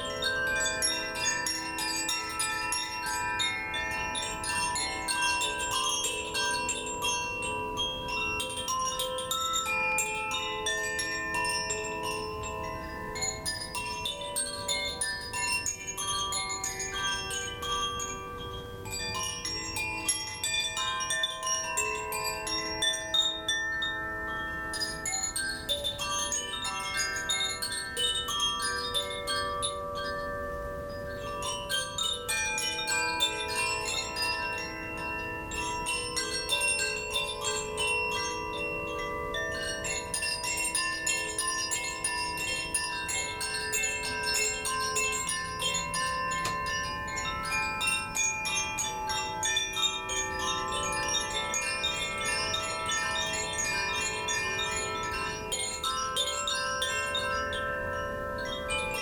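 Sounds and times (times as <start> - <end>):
chimes tinkling: 0.0 - 59.0.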